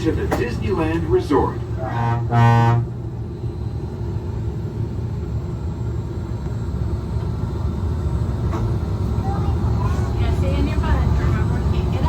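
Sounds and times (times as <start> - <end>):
monorail cab hum: 0.0 - 12.0.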